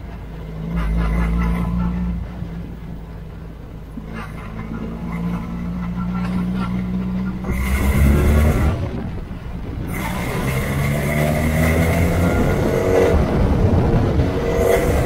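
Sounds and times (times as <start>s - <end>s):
race car engine accelerating: 0.0s - 15.0s
wind rushing over microphone: 0.0s - 15.0s.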